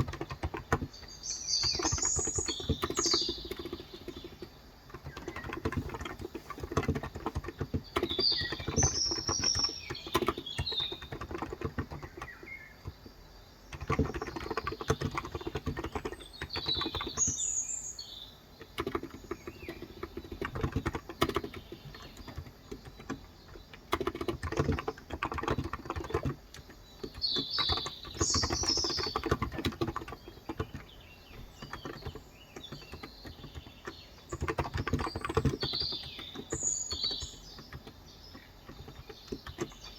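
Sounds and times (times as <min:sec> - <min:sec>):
birds chirping: 0:00.0 - 0:39.9
keyboard typing: 0:00.0 - 0:39.9.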